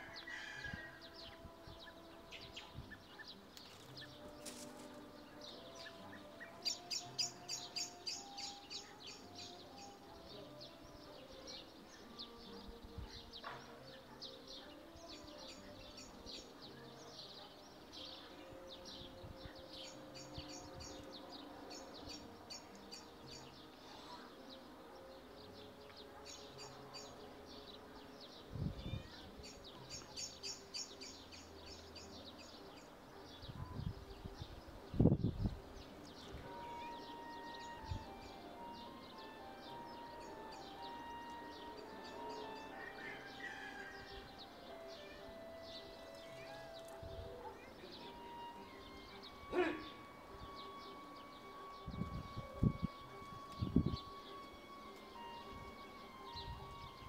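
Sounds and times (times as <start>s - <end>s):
faint outdoor background noise: 0.0s - 57.0s
small birds chirping: 0.0s - 57.0s.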